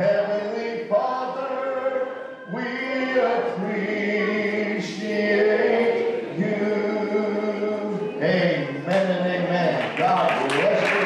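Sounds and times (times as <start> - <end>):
congregation singing: 0.0 - 11.0.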